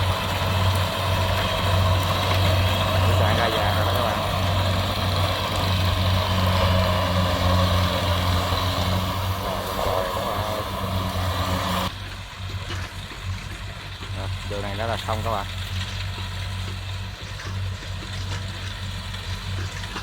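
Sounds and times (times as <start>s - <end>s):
diesel engine hum: 0.0s - 20.0s.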